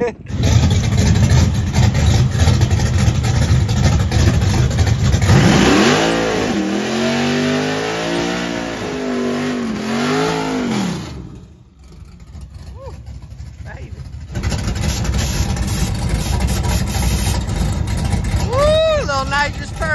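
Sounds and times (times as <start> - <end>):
tyres spinning: 0.2 - 19.9
engine revving: 0.3 - 19.9.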